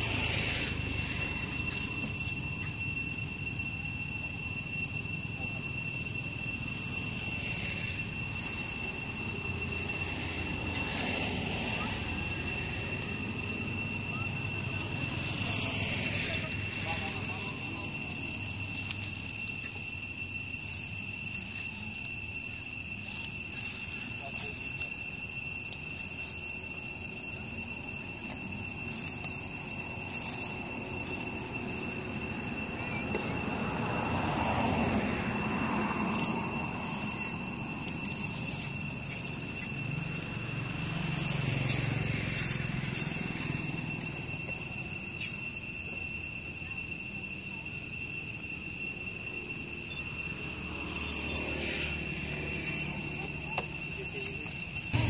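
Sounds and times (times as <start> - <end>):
high-pitched insect drone: 0.0 - 55.0.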